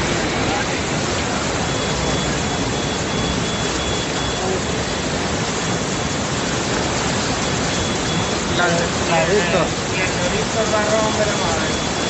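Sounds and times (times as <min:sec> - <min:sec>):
flood water rushing: 0:00.0 - 0:12.0.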